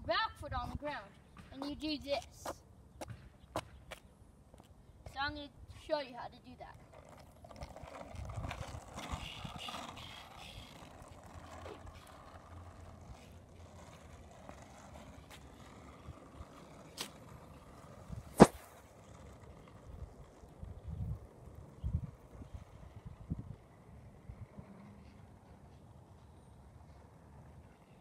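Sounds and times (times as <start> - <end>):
skateboard wheels rolling on asphalt: 0.0 - 28.0.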